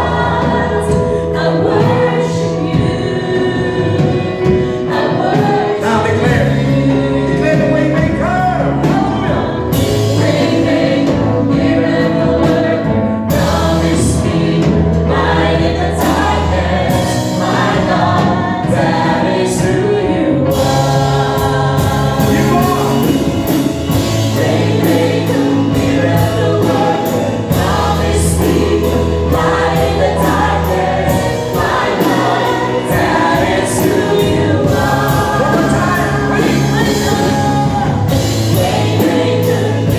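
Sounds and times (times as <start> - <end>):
gospel choir with instruments: 0.0 - 39.9.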